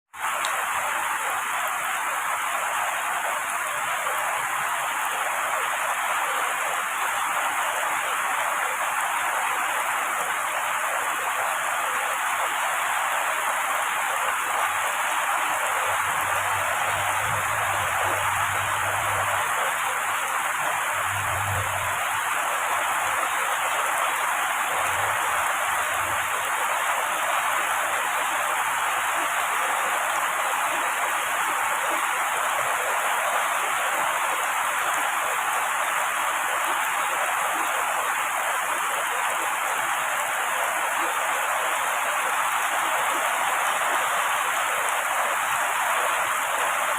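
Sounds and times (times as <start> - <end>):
heavy rain on trees: 0.1 - 46.9.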